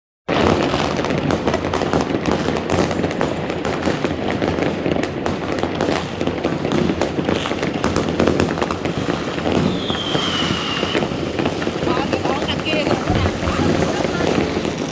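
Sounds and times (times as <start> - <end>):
distant fireworks explosions: 0.3 - 14.9
firecrackers crackling: 0.3 - 14.9.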